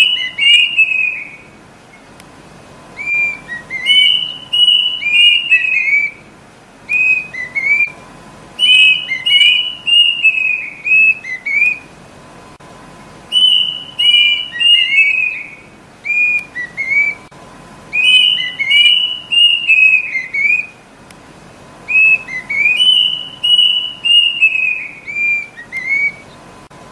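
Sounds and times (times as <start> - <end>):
cuckoo whistled song: 0.0 - 2.1, 2.9 - 11.9, 13.3 - 17.3, 17.9 - 20.8, 21.8 - 26.4.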